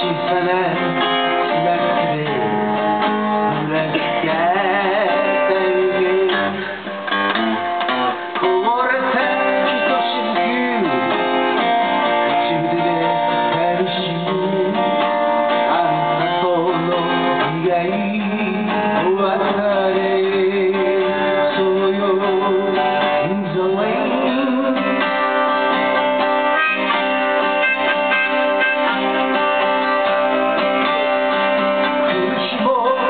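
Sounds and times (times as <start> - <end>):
person singing: 0.0 - 6.9, 8.0 - 33.0
strummed acoustic guitar: 0.0 - 33.0.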